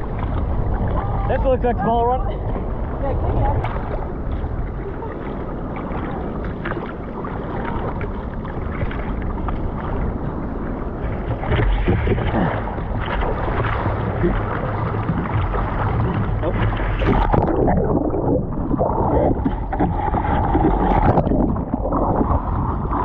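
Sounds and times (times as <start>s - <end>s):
ocean surf sloshing: 0.0s - 23.0s
wind noise on microphone: 0.0s - 23.0s.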